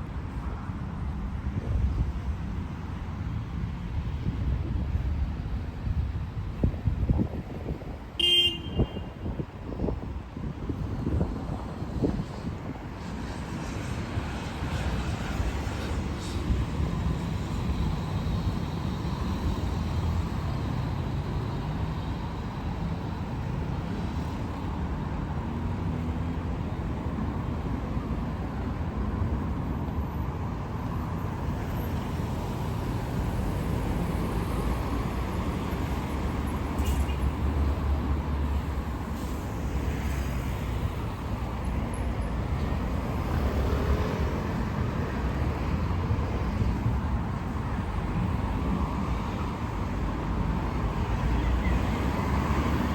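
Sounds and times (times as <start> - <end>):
traffic rumble on city street: 0.0 - 52.9.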